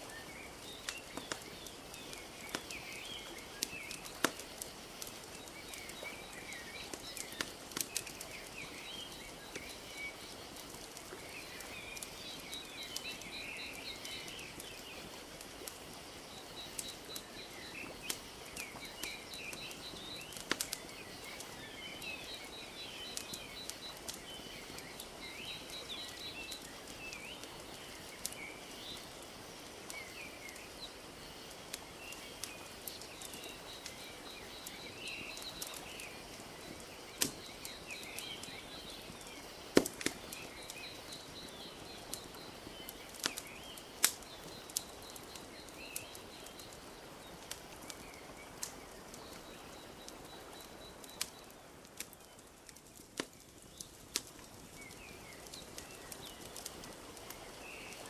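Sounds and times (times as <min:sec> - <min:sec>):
small birds chirping: 0:00.0 - 0:58.0
wood fire crackling: 0:00.0 - 0:58.0.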